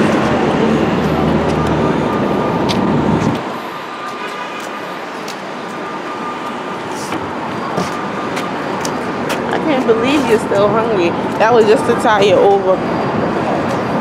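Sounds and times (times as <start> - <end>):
passing vehicles rumbling: 0.0 - 14.0
traffic hum: 0.0 - 14.0.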